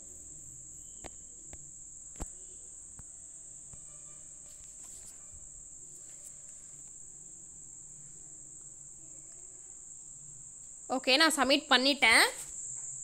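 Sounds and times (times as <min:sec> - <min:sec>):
high-pitched whine: 0:00.0 - 0:10.5.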